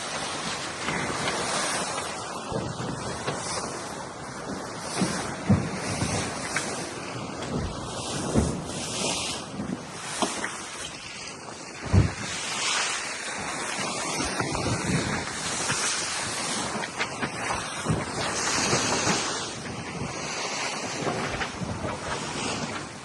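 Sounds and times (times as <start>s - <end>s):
sea water rushing along hull: 0.0s - 23.0s
wind buffeting microphone: 0.0s - 23.0s.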